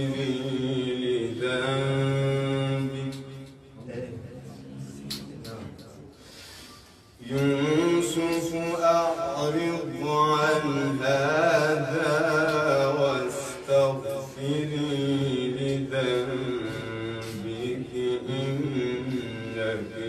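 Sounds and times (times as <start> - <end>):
man chanting: 0.0 - 5.9, 7.2 - 20.0.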